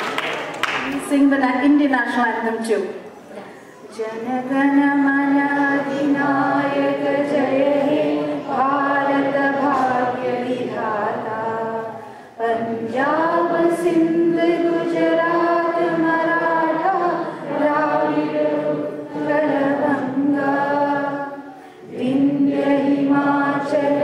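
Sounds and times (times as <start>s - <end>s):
woman singing through microphone: 3.9s - 24.0s
crowd singing without instruments: 4.0s - 24.0s.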